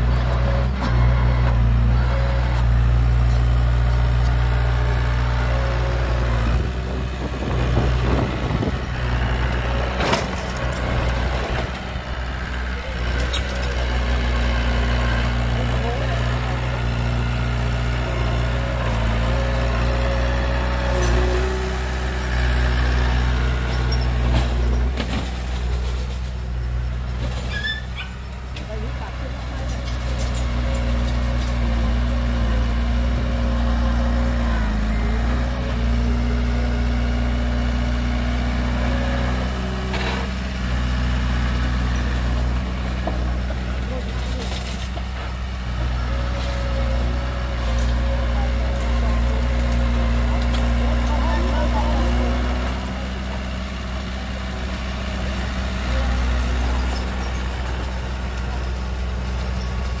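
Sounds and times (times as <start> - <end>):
heavy diesel engine droning: 0.0 - 60.0.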